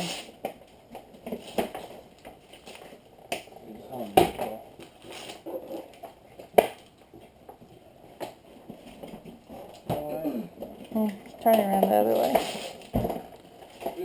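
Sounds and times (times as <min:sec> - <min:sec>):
plastic packaging rustling: 0:00.0 - 0:14.0.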